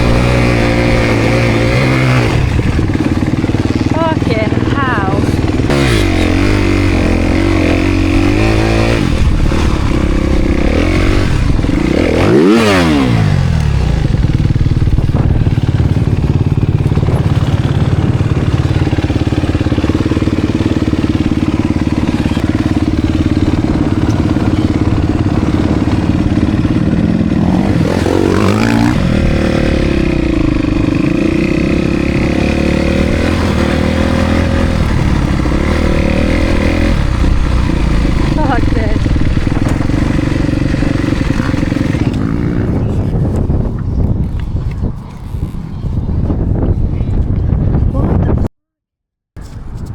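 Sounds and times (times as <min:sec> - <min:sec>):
motocross engine revving: 0:00.0 - 0:43.7.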